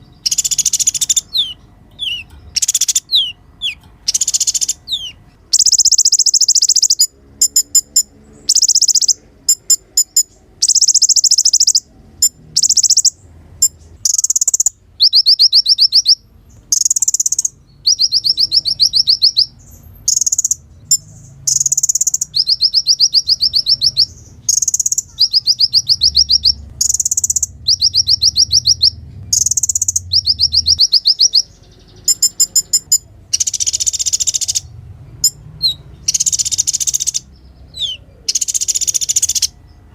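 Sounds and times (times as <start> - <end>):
bird high trills: 0.0 - 39.6
sharp ticking bird notes: 0.0 - 39.9.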